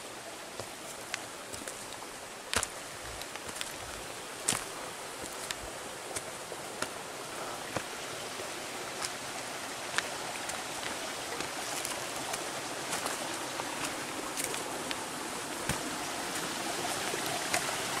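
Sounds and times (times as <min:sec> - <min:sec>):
creek water running: 0:00.0 - 0:18.0
footsteps on rocky forest path: 0:00.0 - 0:18.0
twigs and stones clicking underfoot: 0:00.5 - 0:08.2, 0:08.9 - 0:18.0.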